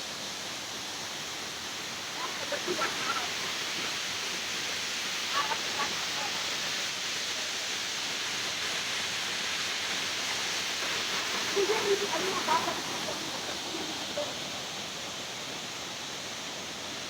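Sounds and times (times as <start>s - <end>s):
waterfall rushing: 0.2s - 17.0s.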